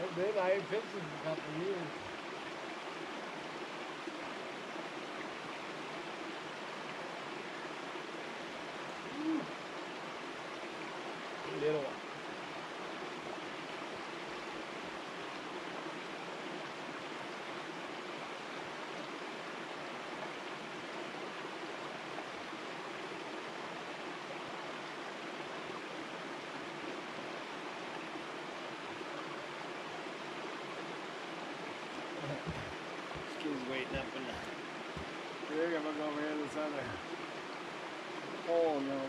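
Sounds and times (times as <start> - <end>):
creek flowing over rocks: 0.0 - 39.0.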